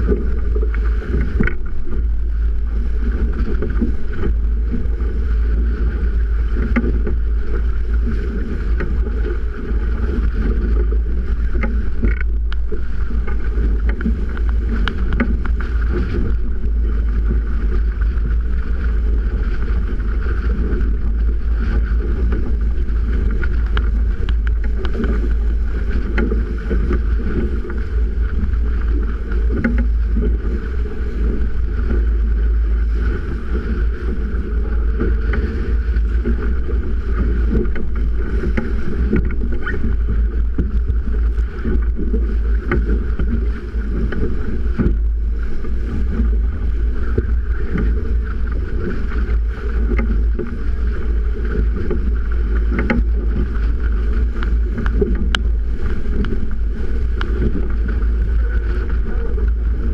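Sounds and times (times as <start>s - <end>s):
water rushing along hull: 0.0s - 59.9s
wind rumble on microphone: 0.0s - 59.9s.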